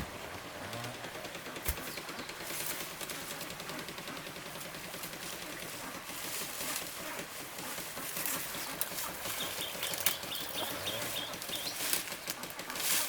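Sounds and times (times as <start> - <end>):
poultry rustling: 1.2 - 13.0.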